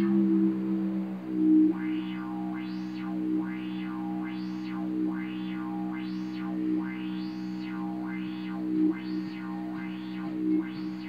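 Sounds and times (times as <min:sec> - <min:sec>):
synthesizer drone with wobbling filter: 0:00.0 - 0:11.0.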